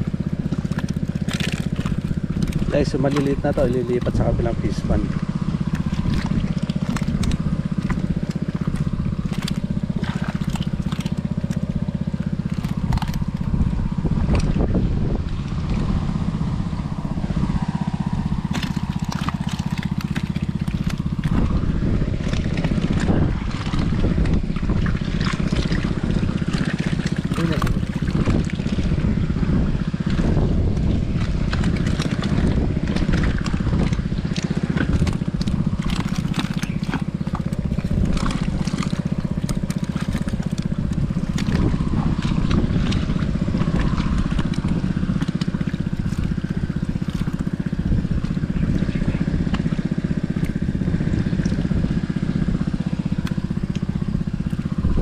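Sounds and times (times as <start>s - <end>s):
water splashing and knocking: 0.0s - 16.0s, 18.0s - 55.0s
small pump engine running: 0.0s - 55.0s.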